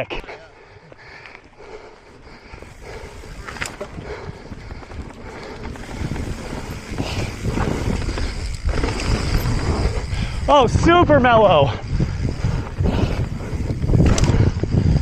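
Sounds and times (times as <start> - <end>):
bike tyres rolling on dirt: 0.6 - 15.0
wind buffeting microphone: 1.8 - 15.0.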